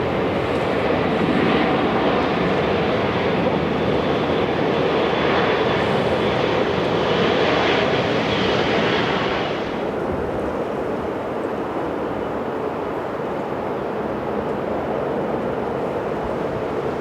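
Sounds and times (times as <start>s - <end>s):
jet engines passing: 0.0s - 17.0s.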